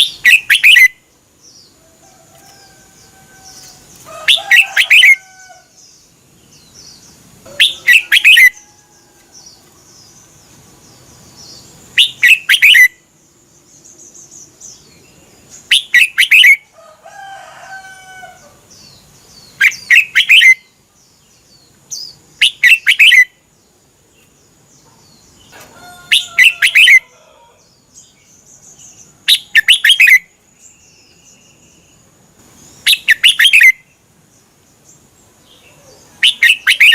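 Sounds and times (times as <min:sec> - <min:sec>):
bulbul singing: 0:00.0 - 0:01.8, 0:02.7 - 0:16.7, 0:18.7 - 0:23.5, 0:25.0 - 0:36.9.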